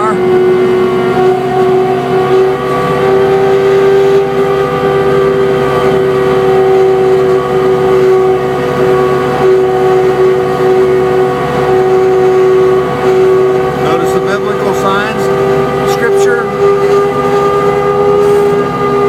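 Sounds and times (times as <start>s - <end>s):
diesel locomotive engine under load: 0.0s - 19.0s
even whine: 0.0s - 19.0s.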